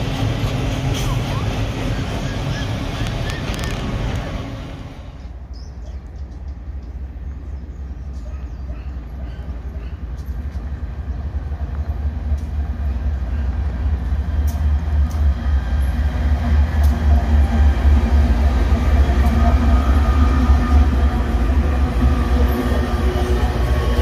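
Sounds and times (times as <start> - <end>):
locomotive engine rumble: 0.0 - 24.0.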